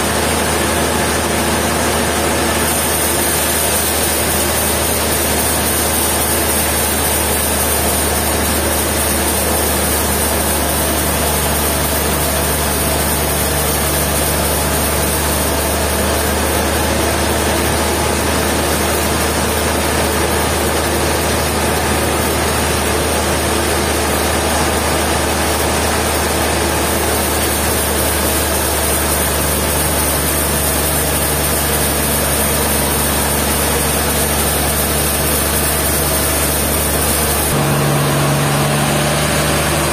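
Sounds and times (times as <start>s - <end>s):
sawmill machinery hum: 0.0s - 39.9s.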